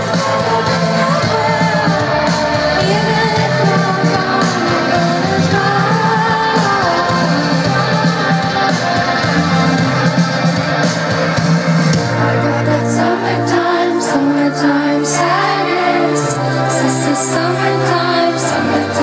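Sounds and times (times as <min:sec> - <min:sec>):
woman singing: 0:00.0 - 0:10.0, 0:12.2 - 0:19.0
live pop band playing: 0:00.0 - 0:19.0.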